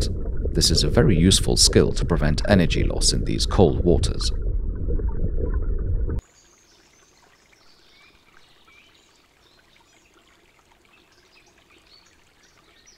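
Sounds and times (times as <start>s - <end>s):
running water: 0.0s - 12.9s.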